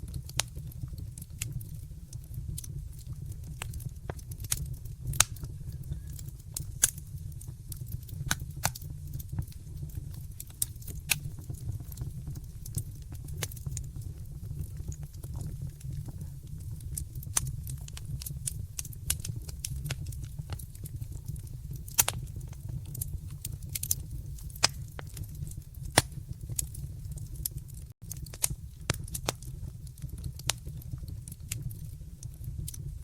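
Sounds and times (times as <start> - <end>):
low rumble of flames: 0.0 - 33.0
wood fire pops and snaps: 0.0 - 33.0.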